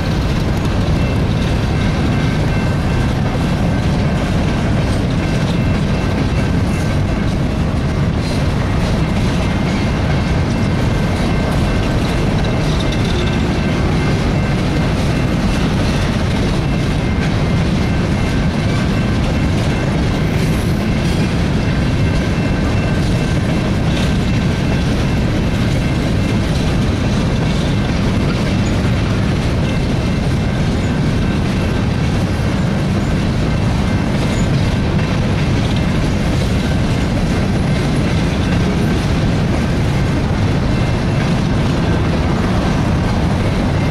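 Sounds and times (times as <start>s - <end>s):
freight train rumbling past: 0.0s - 43.9s
wheels clacking over rail joints: 0.0s - 43.9s.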